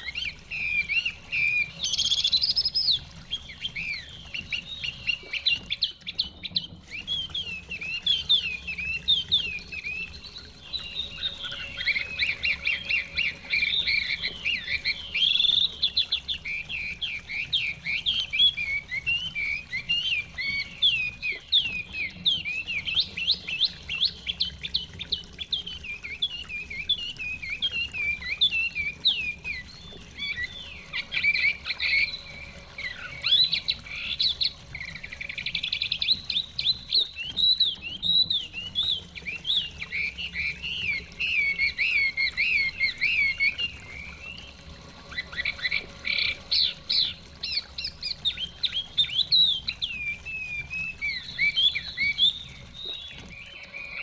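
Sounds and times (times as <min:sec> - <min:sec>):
bird singing whistled song: 0:00.0 - 0:54.0.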